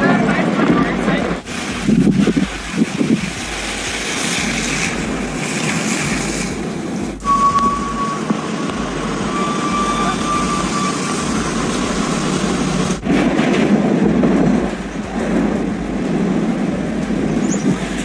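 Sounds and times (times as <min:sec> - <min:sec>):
thin high whine: 0:00.0 - 0:18.0
vehicle rumble: 0:00.0 - 0:18.0.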